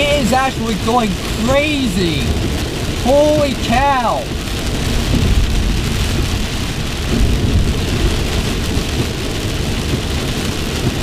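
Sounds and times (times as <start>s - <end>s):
heavy rain drumming on car: 0.0s - 11.0s
tyres rumbling on flooded road: 0.0s - 11.0s.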